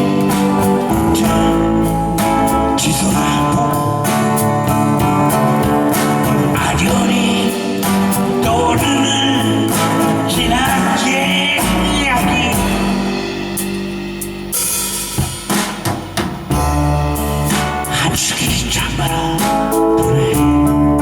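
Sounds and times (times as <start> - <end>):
bending lead guitar line: 0.0 - 14.2, 16.5 - 21.0
band playing blues ballad: 0.0 - 21.0.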